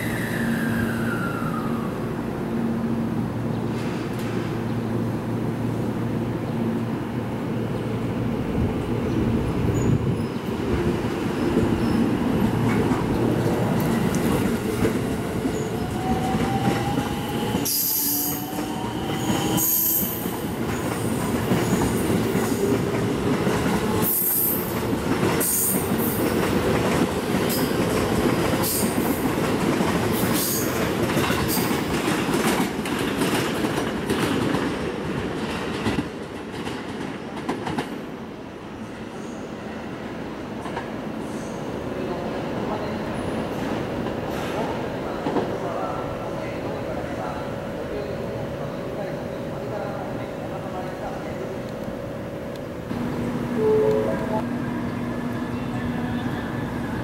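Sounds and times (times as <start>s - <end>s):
train cars rumbling: 2.4s - 38.4s, 42.0s - 57.0s.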